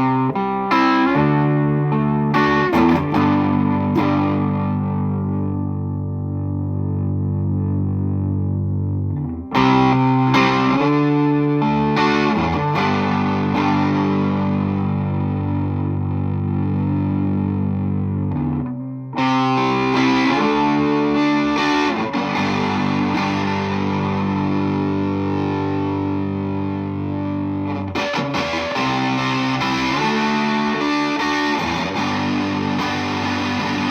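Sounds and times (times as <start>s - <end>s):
distorted electric guitar chords: 0.0s - 33.9s.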